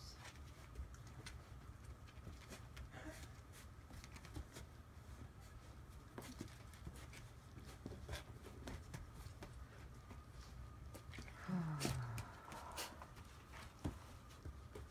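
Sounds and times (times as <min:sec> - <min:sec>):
low steady hum: 0:00.0 - 0:14.9
puppies chewing and tugging: 0:00.0 - 0:14.9
paws scrabbling on wooden floor: 0:00.1 - 0:14.9.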